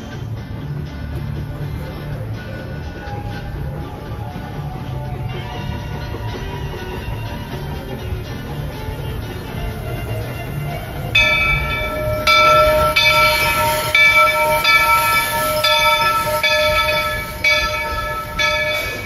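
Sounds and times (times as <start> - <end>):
locomotive bell ringing: 0.0 - 19.0
train running rumble: 0.0 - 19.0.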